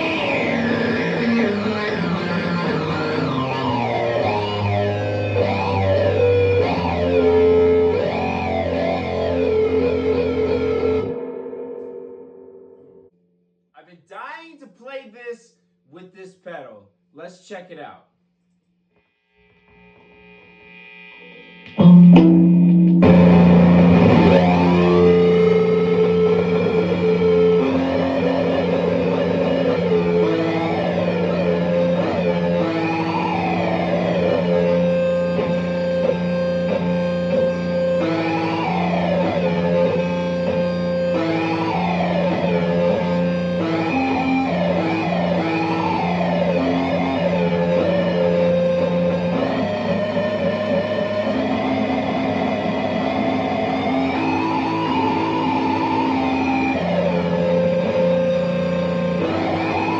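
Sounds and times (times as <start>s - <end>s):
fuzz electric guitar: 0.0s - 13.1s, 19.0s - 59.9s.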